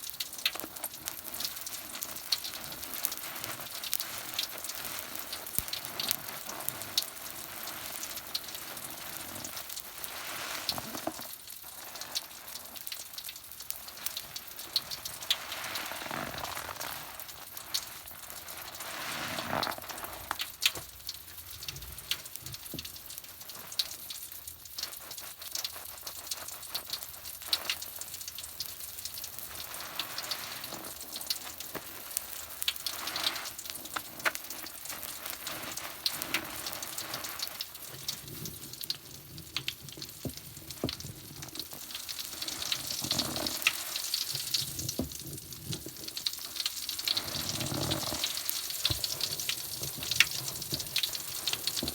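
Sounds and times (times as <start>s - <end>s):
foam crackling and fizzing: 0.0s - 51.9s.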